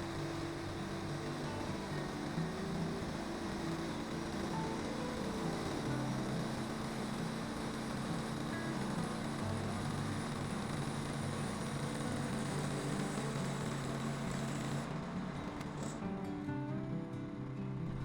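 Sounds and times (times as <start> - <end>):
background music low notes: 0.0 - 18.0
sawmill engine running: 0.0 - 18.0.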